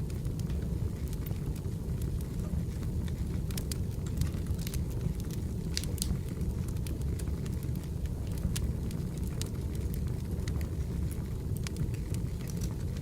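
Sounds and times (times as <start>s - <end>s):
low fire rumble: 0.0s - 13.0s
wood fire crackling and popping: 0.0s - 13.0s.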